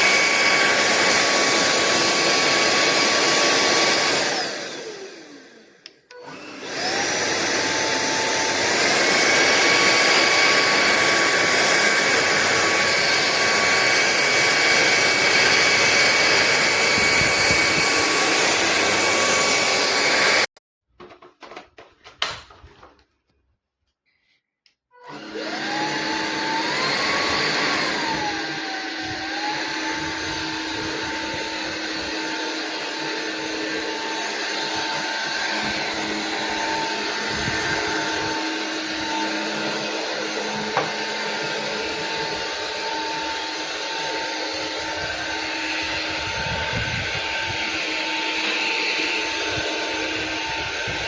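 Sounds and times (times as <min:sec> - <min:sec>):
stick vacuum motor whine: 0:00.0 - 0:20.5, 0:25.0 - 0:51.0
vacuum airflow noise: 0:00.0 - 0:20.5, 0:25.1 - 0:51.0.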